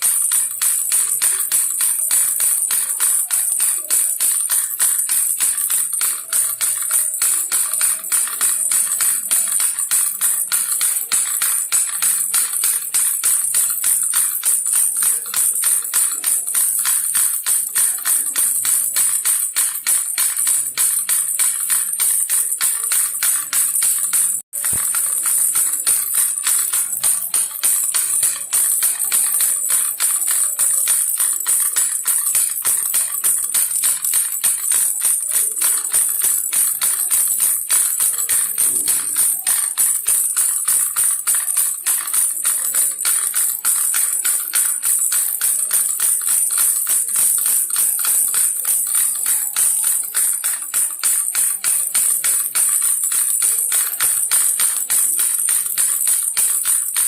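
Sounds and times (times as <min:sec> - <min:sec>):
toy rattle shaken: 0:00.0 - 0:57.0.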